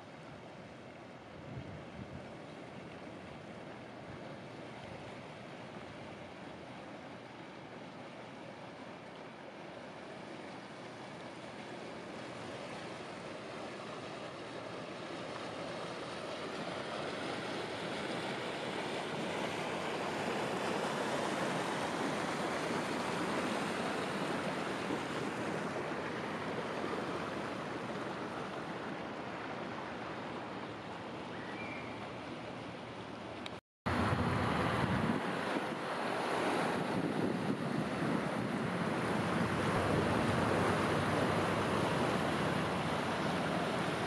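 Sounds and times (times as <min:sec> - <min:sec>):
rushing water: 0:00.0 - 0:44.0.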